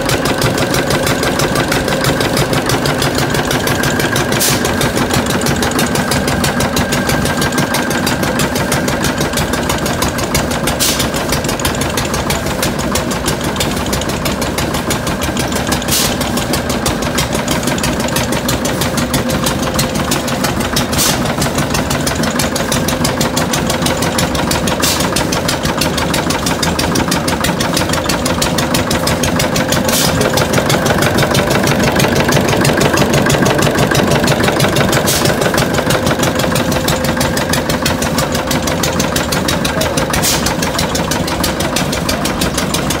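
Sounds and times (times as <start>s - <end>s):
diesel generator engine knocking: 0.0s - 43.0s.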